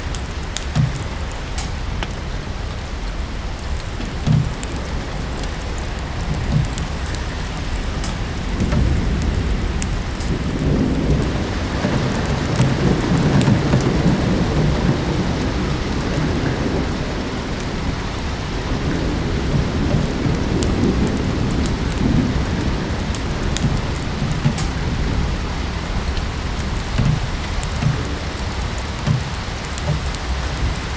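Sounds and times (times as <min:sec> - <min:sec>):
fireplace crackles: 0:00.0 - 0:30.9
low thunder rumble: 0:00.0 - 0:30.9
steady rain: 0:00.0 - 0:30.9.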